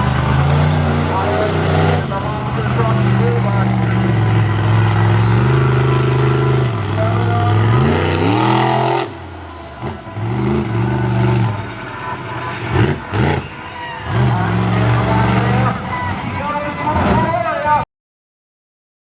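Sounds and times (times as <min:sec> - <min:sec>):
large vehicle engine revving: 0:00.0 - 0:17.5.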